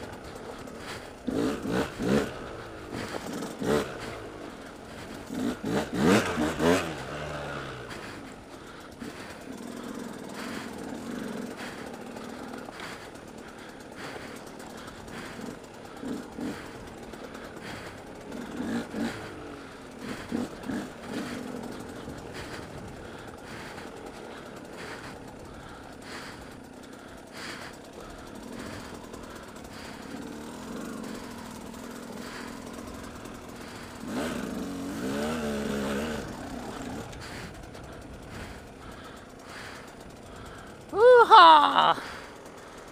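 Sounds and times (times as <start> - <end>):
dirt bike engine: 0.0 - 42.9.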